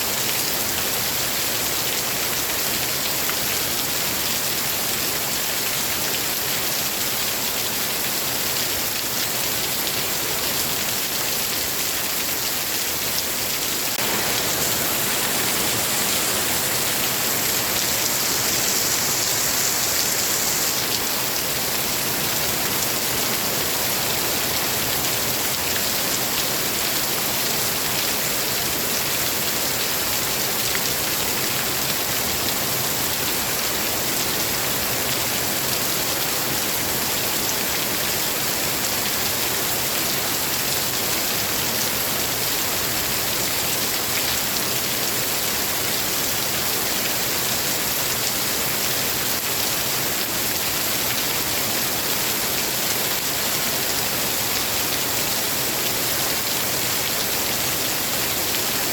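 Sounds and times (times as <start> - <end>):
heavy rain falling: 0.1 - 58.9.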